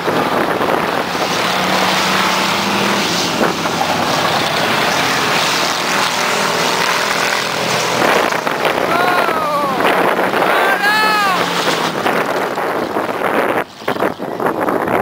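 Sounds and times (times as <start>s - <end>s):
race truck engines: 0.0s - 15.0s.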